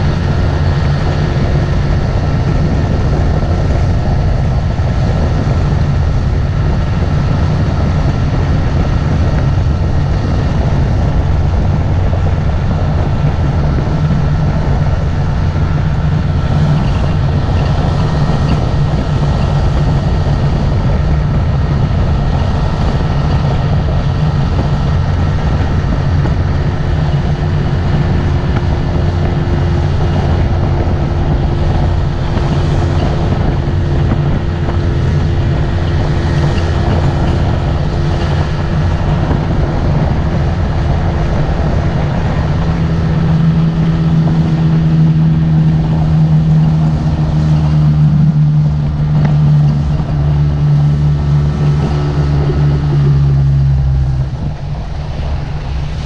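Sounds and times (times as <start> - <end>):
motorboat engine running: 0.0 - 56.0.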